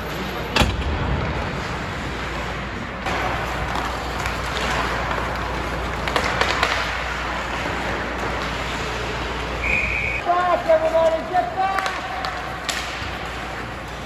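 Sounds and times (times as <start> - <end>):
crowd noise: 0.0 - 14.0
hockey sticks and puck clacking: 1.3 - 14.0
skating on ice: 1.3 - 14.0.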